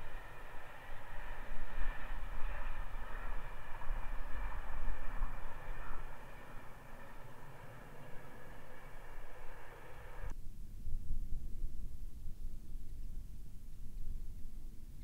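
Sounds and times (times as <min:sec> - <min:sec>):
steady outdoor hiss: 0:00.0 - 0:15.0
wind buffeting microphone: 0:00.0 - 0:15.0.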